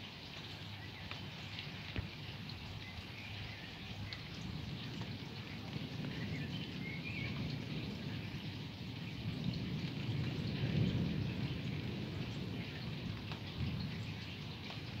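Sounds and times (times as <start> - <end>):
steady rain falling: 0.0 - 15.0
distant thunder rumble: 0.6 - 15.0.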